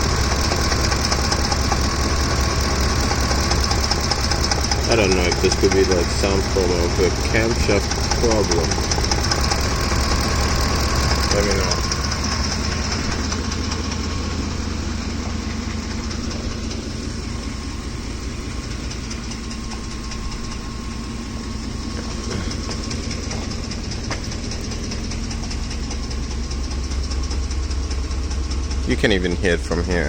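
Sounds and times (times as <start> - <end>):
engine running: 0.0 - 30.0
fast engine ticking: 0.0 - 30.0.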